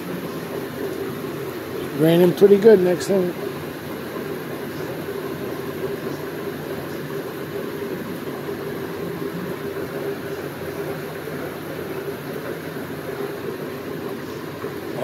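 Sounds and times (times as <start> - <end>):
constant low hum: 0.0 - 15.0
steady rain falling: 0.0 - 15.0.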